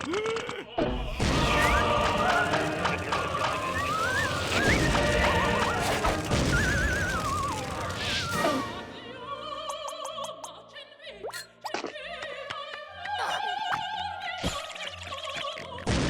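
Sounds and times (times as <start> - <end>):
operatic singing with vibrato: 0.0 - 15.8.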